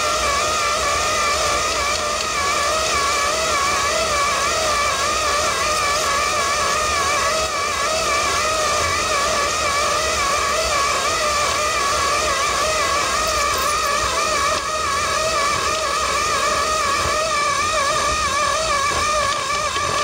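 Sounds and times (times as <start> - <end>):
motor whine: 0.0 - 20.0.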